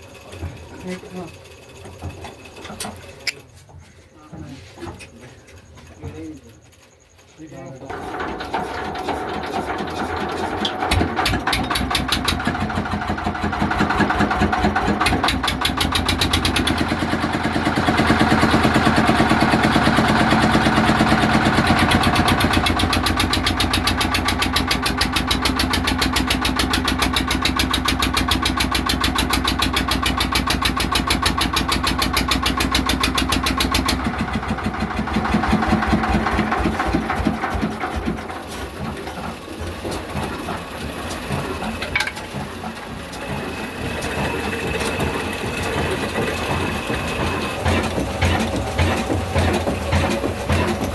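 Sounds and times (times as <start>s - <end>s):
diesel engine starting and chugging: 0.0s - 3.6s, 7.6s - 50.9s.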